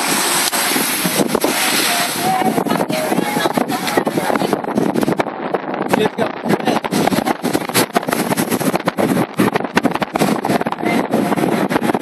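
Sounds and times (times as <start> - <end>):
wind gusts on microphone: 0.0 - 12.0.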